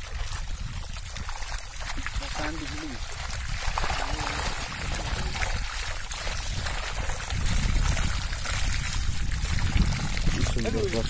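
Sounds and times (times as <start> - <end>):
shallow water splashing: 0.0 - 11.0.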